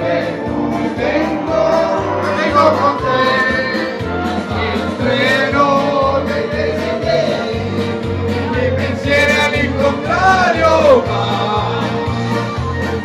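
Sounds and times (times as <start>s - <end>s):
backing track with bass line: 0.0s - 13.0s
men singing karaoke: 0.0s - 13.0s.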